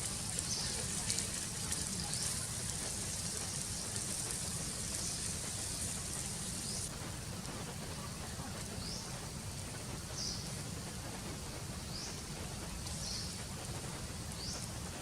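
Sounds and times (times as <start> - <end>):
high hiss: 0.0 - 15.0.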